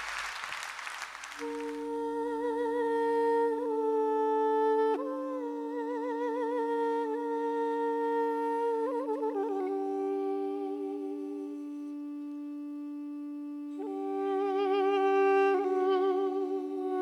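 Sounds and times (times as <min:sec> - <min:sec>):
duduk melody with trills: 0:01.4 - 0:17.0
duduk drone: 0:01.5 - 0:17.0.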